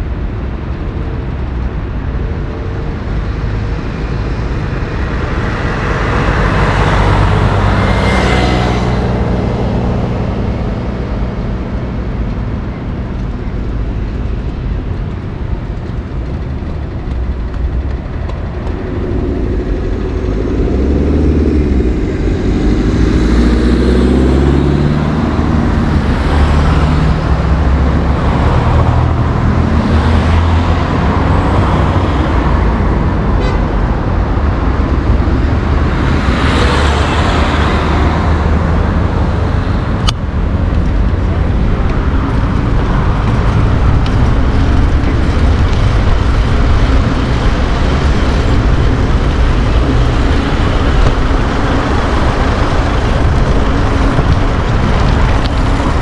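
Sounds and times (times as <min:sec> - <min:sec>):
engine humming close by: 0:00.0 - 0:56.0
low traffic rumble: 0:00.0 - 0:56.0
vehicles passing: 0:00.0 - 0:56.0.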